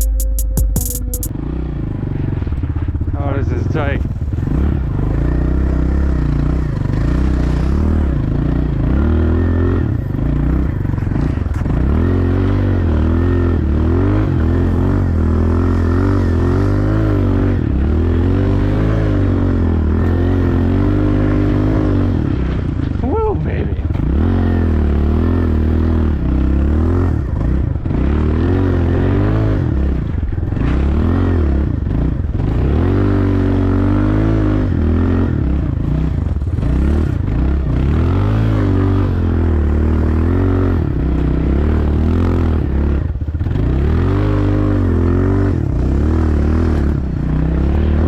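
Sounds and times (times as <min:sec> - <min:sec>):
dirt bike engine revving: 0:03.1 - 0:48.0.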